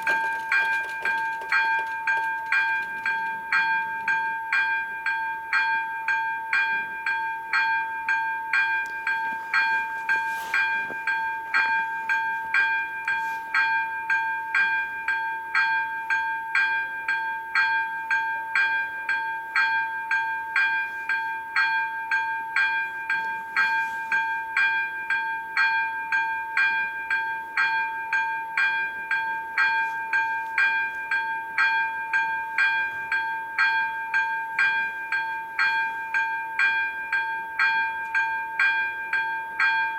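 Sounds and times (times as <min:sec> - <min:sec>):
level crossing bell ringing: 0:00.0 - 0:39.9.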